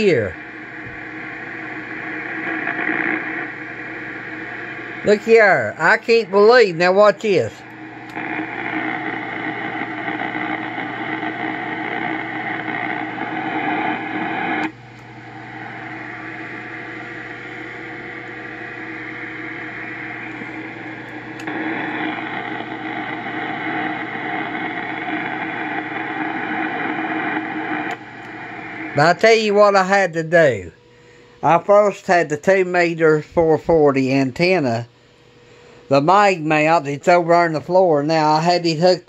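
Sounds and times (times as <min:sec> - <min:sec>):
radio speaker hissing with noise: 0:00.0 - 0:39.0.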